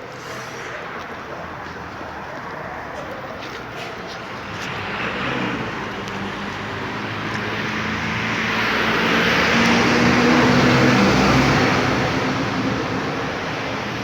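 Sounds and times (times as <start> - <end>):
vehicle passing by: 0.0 - 13.6.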